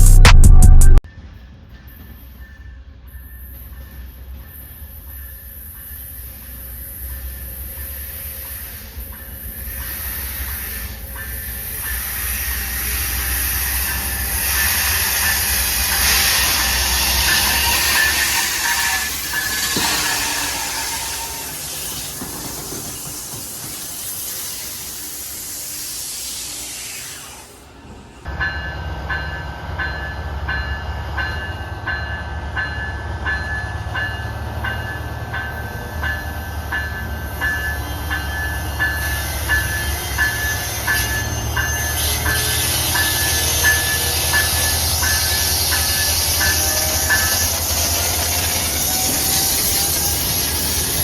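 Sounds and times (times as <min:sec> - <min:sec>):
diesel train rumbling: 0:00.0 - 0:26.8, 0:27.6 - 0:51.0
passing train hiss: 0:01.6 - 0:51.0.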